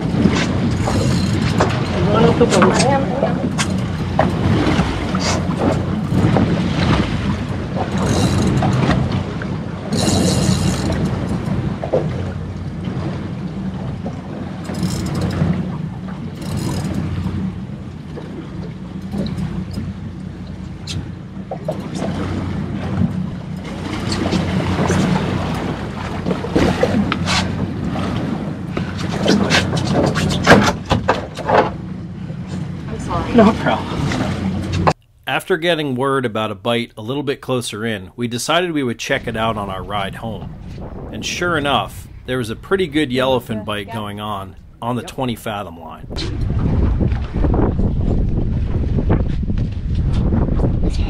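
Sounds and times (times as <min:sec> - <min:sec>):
wind buffeting the microphone: 0:00.0 - 0:34.9, 0:39.0 - 0:51.0
outboard motor idling: 0:00.0 - 0:35.2, 0:39.1 - 0:48.1.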